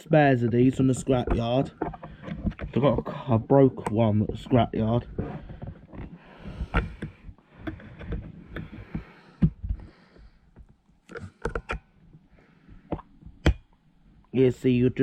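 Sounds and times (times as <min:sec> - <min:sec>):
plastic clicks and scraping: 0:00.5 - 0:13.8.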